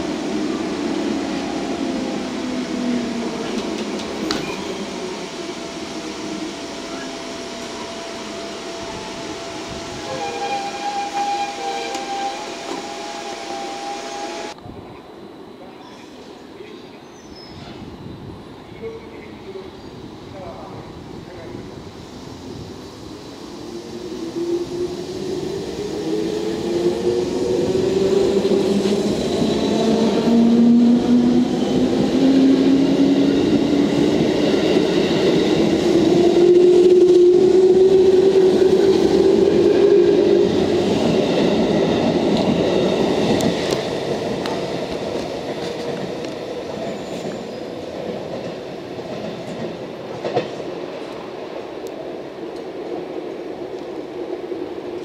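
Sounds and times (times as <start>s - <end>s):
train wheels on rails: 0.0s - 14.6s, 21.7s - 55.0s.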